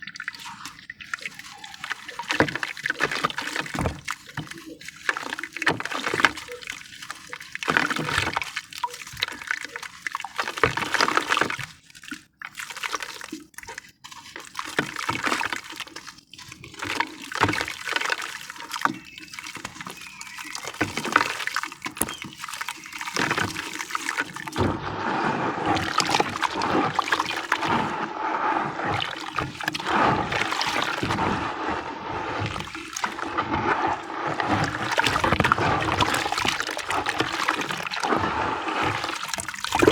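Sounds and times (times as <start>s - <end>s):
wet sloshing of mortar paste: 0.0s - 11.7s, 14.3s - 39.9s
wet gritty splashes and trickles: 0.0s - 39.9s.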